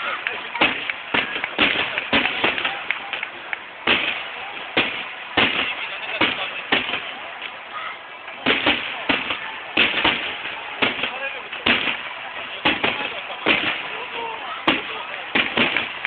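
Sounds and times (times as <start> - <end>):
fireworks bursting with echoing bangs: 0.0 - 7.2, 8.4 - 16.0.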